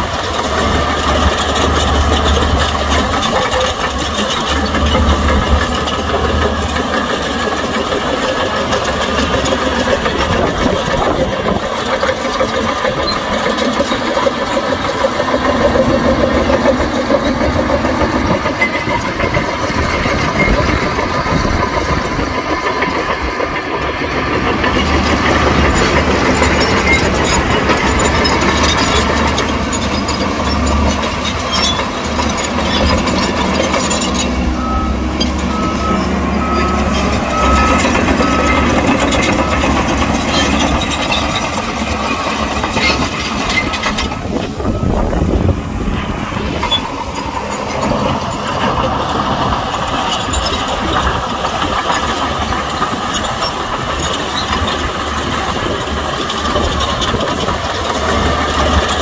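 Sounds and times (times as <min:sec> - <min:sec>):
heavy diesel machinery rumbling: 0:00.0 - 0:59.0.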